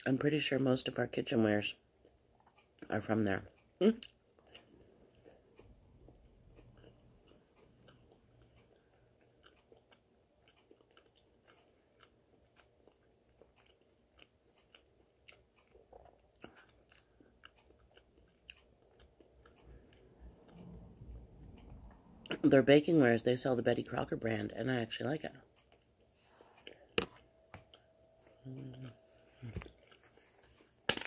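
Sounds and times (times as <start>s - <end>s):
chewing food: 2.0s - 22.5s, 25.4s - 27.0s, 27.6s - 30.7s.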